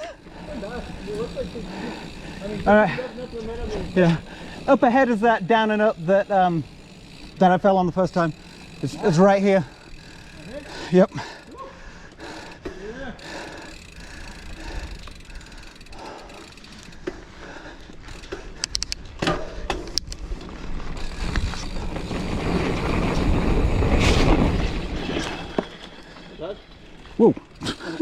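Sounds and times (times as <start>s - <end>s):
bike hub ratcheting: 0.0s - 23.8s, 25.4s - 28.0s
bike rattling with clicks: 0.0s - 28.0s
wind: 0.0s - 28.0s.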